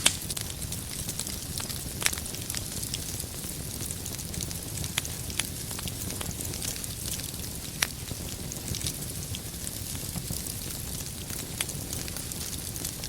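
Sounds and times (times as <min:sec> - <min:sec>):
fire crackling and popping: 0:00.0 - 0:13.0
wood fire rumbling and hissing: 0:00.0 - 0:13.0.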